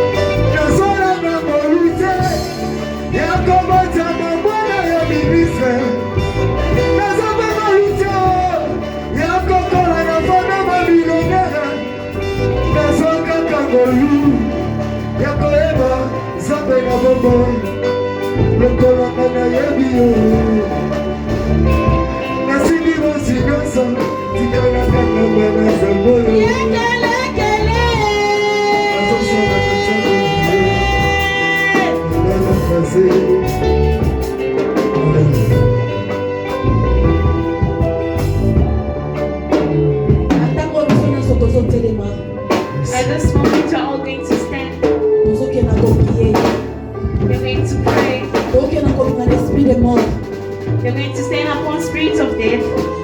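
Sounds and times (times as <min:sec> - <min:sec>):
band with bass and drums: 0:00.0 - 0:53.0.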